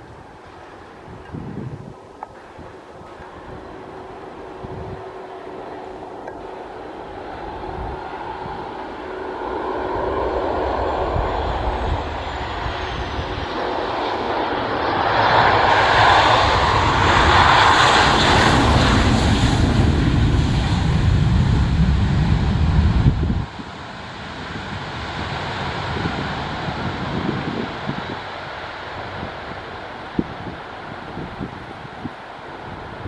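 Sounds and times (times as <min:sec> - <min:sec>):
airliner engines roaring: 0:00.0 - 0:33.0.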